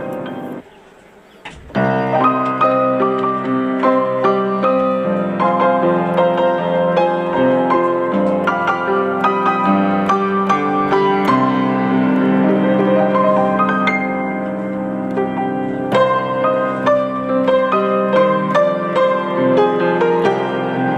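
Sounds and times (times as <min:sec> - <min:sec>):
gentle piano music: 0:00.0 - 0:20.9.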